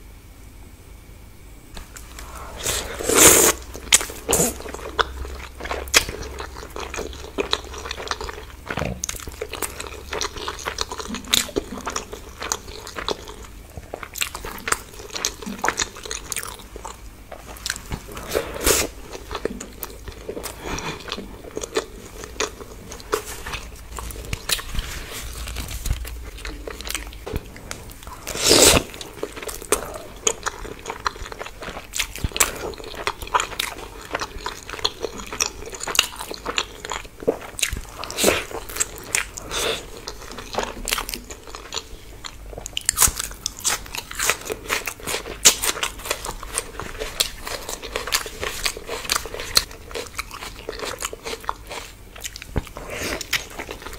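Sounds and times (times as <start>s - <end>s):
person biting and chewing: 2.0s - 53.9s.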